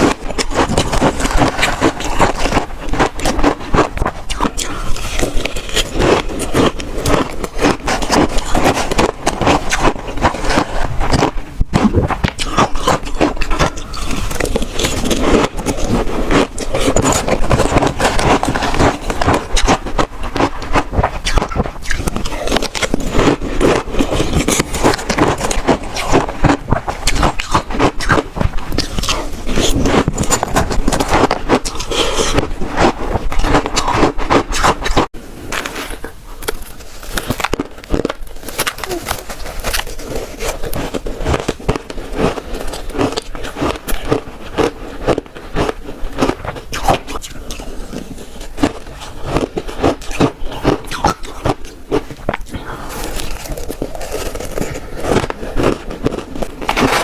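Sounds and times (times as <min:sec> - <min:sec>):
crunching shaved ice: 0:00.0 - 0:57.0.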